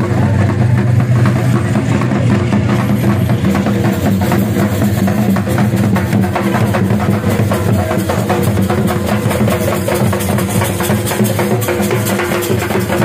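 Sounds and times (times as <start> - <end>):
dhol drums beating fast: 0.0 - 13.0.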